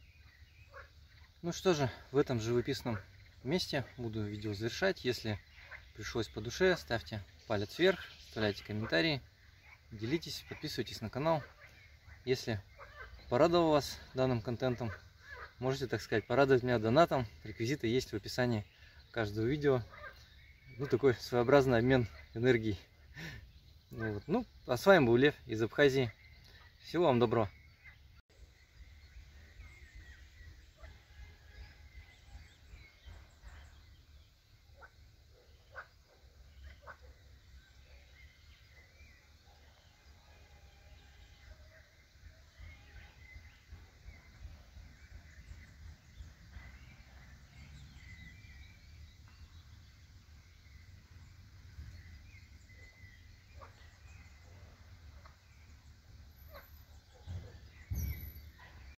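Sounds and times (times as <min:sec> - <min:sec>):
faint birds chirping: 0:00.0 - 0:59.0
sharp bird calls: 0:00.0 - 0:59.0.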